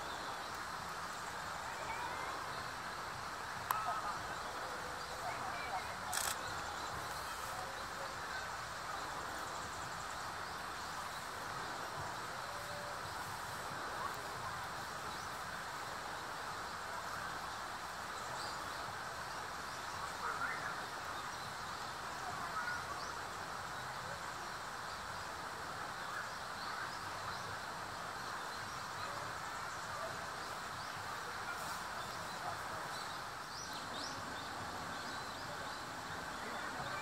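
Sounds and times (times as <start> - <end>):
outdoor background noise: 0.0 - 37.0.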